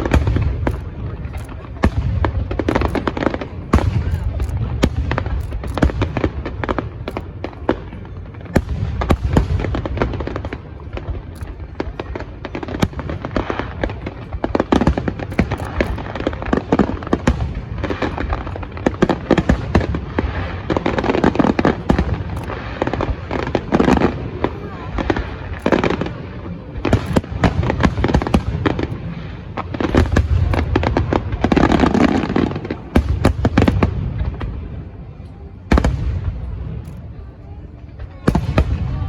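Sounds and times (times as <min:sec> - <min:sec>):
firework shell bursts and crackling: 0:00.0 - 0:26.2, 0:26.8 - 0:34.5.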